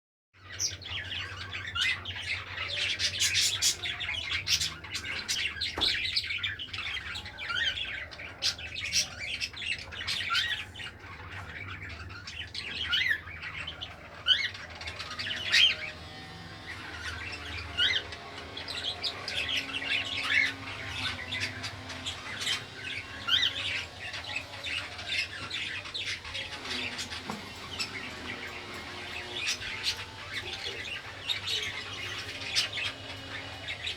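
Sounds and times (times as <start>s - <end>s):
pet bird chirping and squawking: 0.7s - 33.9s.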